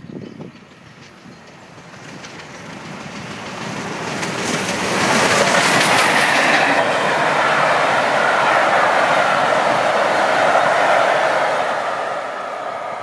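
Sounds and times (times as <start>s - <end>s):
train coaches clattering: 0.0s - 13.0s
wheels on rails: 0.0s - 13.0s
steam locomotive exhaust: 0.1s - 13.0s.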